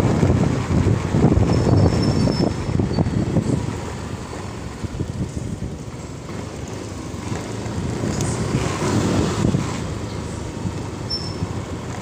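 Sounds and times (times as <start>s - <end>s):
motorcycle engine and road noise: 0.0s - 12.0s
wind buffeting microphone: 0.0s - 12.0s.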